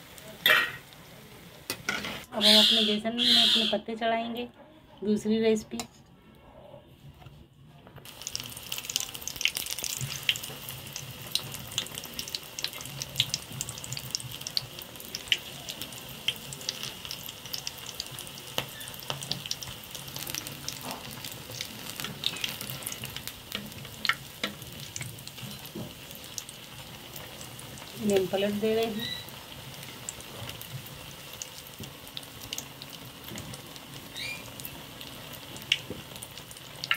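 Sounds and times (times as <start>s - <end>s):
deep-frying sizzle with crackling pops: 0.0s - 2.9s, 8.0s - 36.9s.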